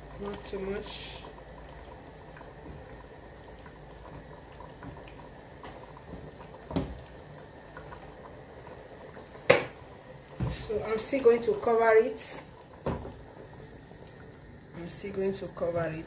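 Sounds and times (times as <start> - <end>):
beans boiling in a pot: 0.0 - 16.0.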